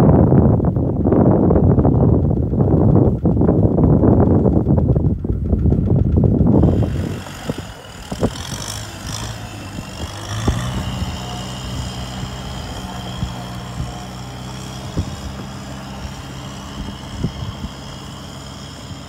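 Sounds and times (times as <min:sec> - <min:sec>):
tractor diesel engine under load: 0:00.1 - 0:19.0.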